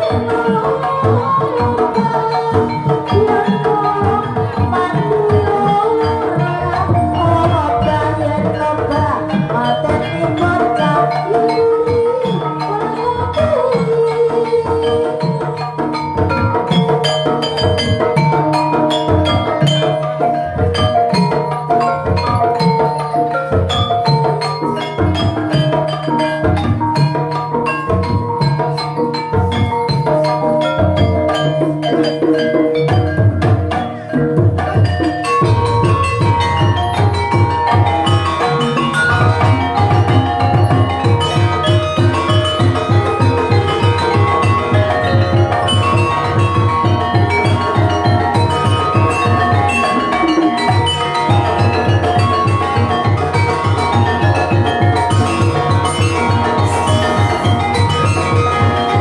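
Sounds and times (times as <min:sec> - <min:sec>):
hand drums beating: 0:00.0 - 0:59.0
keyed percussion melody: 0:00.0 - 0:59.0.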